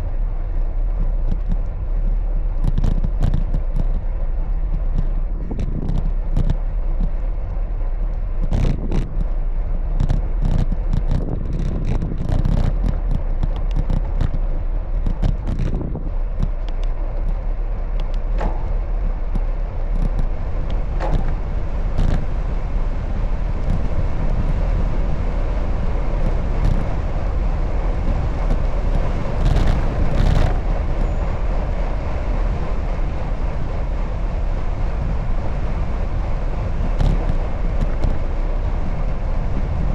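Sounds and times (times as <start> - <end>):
bicycle clicks and rattles: 0.0 - 39.9
road and wind rumble: 0.0 - 39.9.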